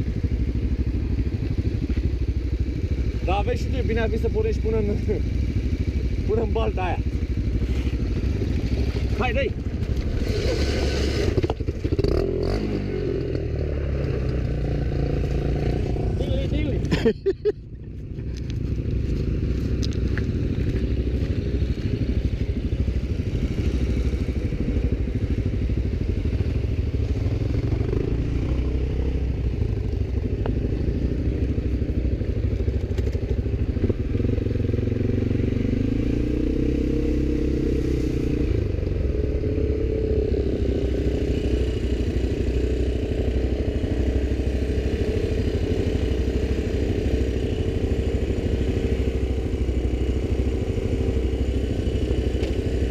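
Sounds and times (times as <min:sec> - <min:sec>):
atv engine revving: 0:00.0 - 0:17.1, 0:18.5 - 0:52.9.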